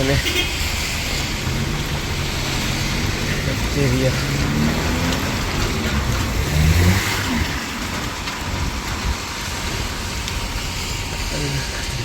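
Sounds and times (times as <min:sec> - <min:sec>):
hiss of wet road: 0:00.0 - 0:05.6, 0:06.4 - 0:12.0
car passing on wet street: 0:00.0 - 0:12.0
light rain: 0:00.0 - 0:12.0.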